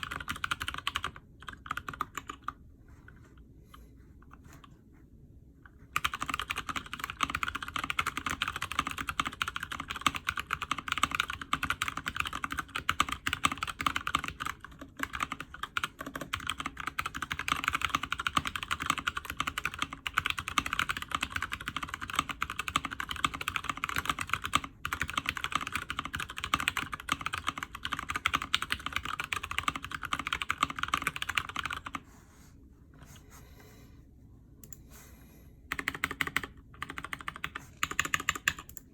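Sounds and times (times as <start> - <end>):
typing on mechanical keyboard: 0.0 - 2.6, 6.0 - 32.0, 35.7 - 38.9.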